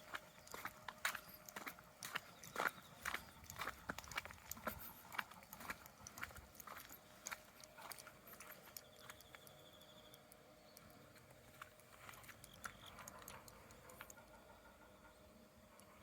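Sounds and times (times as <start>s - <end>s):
faint scattered clicks: 0.0s - 14.6s.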